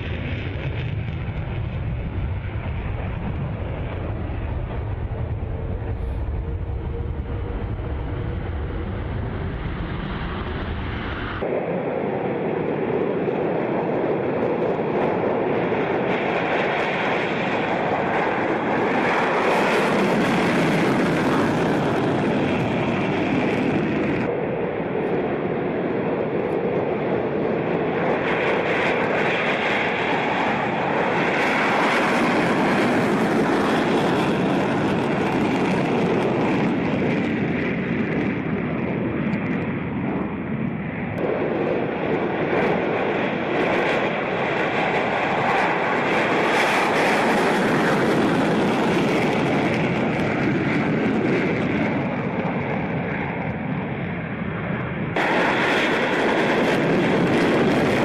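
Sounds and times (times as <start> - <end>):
jet engines roaring at takeoff: 0.0 - 58.0.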